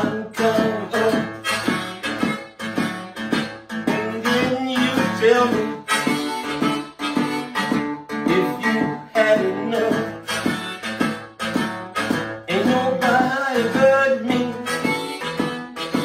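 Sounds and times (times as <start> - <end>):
blues harmonica with bent notes: 0.0 - 16.0
rhythmic acoustic guitar: 0.0 - 16.0.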